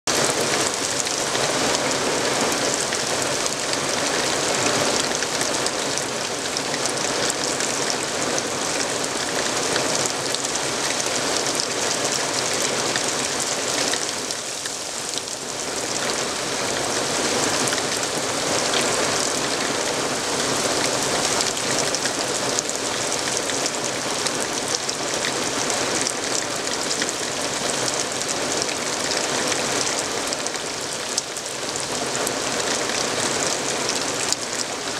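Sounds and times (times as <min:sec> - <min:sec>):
steady rain on woodland: 0:00.1 - 0:34.9.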